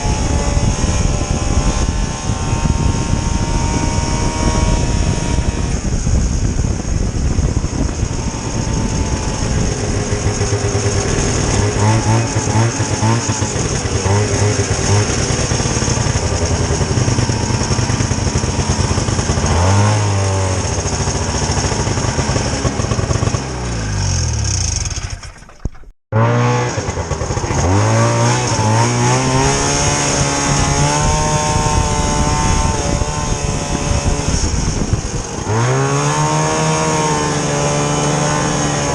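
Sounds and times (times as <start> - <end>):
two-stroke snowmobile engine revving: 0.0 - 38.9.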